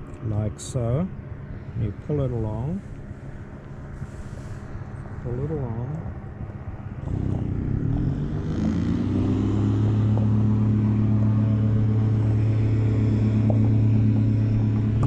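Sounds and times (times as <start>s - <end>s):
motor engine running: 2.9s - 15.0s.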